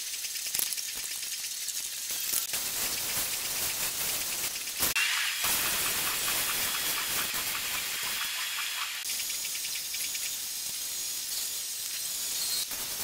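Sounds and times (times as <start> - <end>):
pressure sprayer hissing: 0.1 - 13.0.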